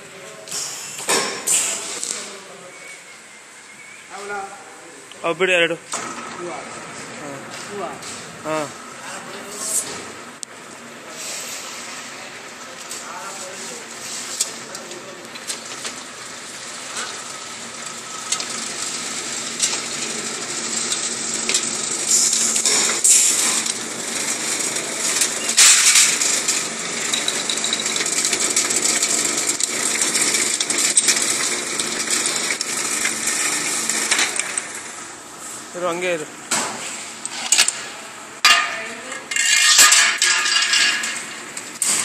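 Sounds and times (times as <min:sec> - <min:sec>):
roll forming machine hum: 0:05.9 - 0:42.0.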